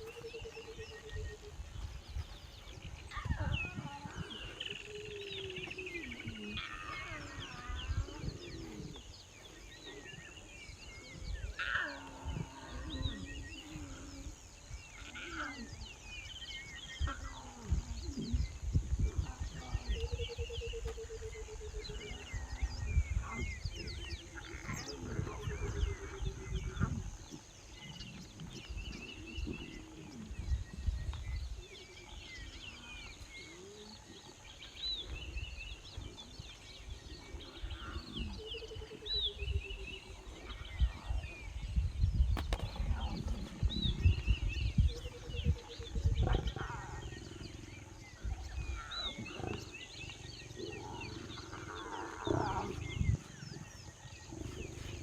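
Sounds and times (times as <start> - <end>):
lion cubs mewing and wailing: 0.0 - 55.0.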